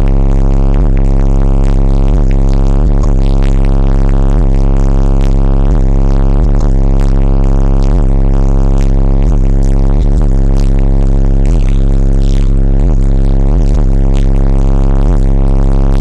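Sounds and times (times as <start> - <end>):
distorted loud bass music: 0.0 - 16.0.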